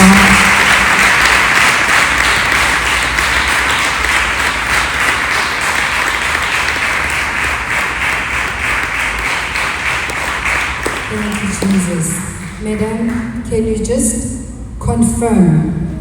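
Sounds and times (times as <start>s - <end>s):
congregation clapping: 0.0s - 13.4s.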